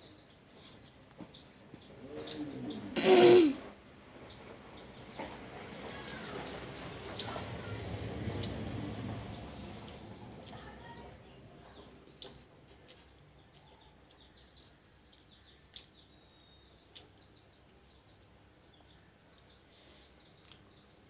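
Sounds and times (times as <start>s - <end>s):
faint small birds chirping: 0.0s - 21.0s
sharp clicks of eating: 0.1s - 2.8s, 4.2s - 21.0s.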